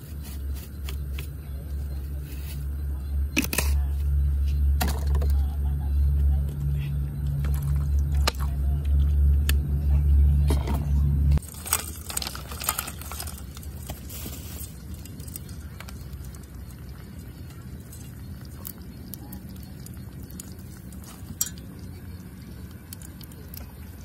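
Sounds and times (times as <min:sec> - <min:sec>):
loud low hum: 0:00.0 - 0:24.0.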